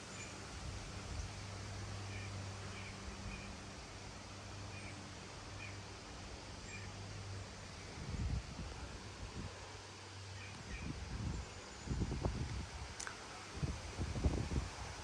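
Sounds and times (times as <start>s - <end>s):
wind rustling foliage: 0.0s - 15.0s.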